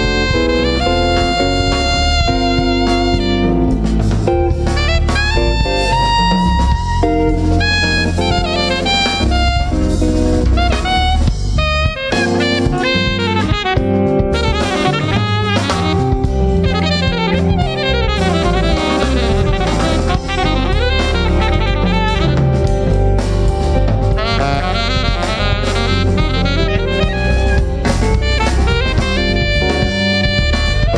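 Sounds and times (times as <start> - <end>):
drum kit: 0.0 - 30.9
electric bass: 0.0 - 30.9
electric guitar: 0.0 - 30.9
saxophone: 0.0 - 30.9.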